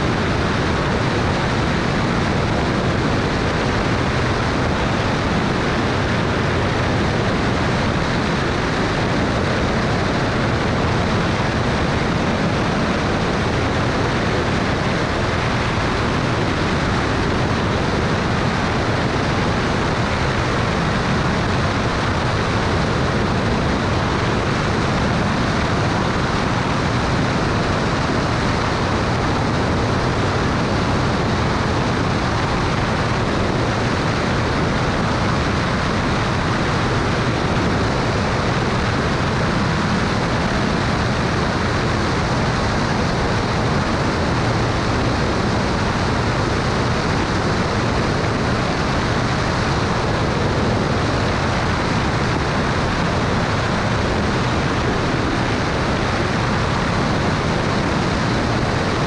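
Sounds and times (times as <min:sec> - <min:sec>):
propeller plane engine drone: 0:00.0 - 0:59.0
rushing airflow: 0:00.0 - 0:59.0.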